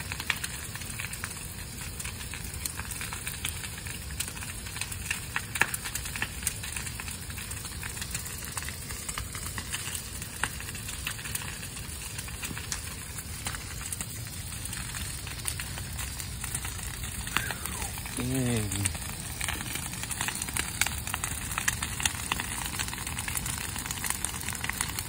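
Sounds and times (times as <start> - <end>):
bonfire crackling and popping: 0.0 - 25.0
low rush of flame: 4.8 - 25.0.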